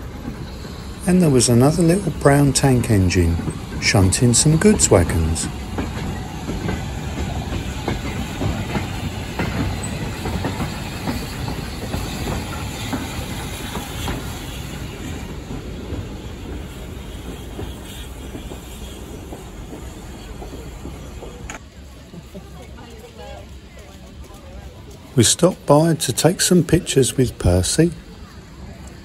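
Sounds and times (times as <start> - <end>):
wagons clattering over rails: 0.0 - 29.0.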